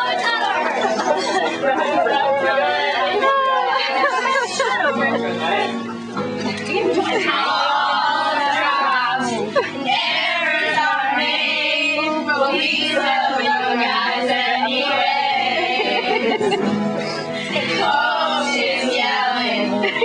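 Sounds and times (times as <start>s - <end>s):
young women singing together: 0.0s - 4.9s, 6.9s - 16.7s, 17.4s - 20.0s.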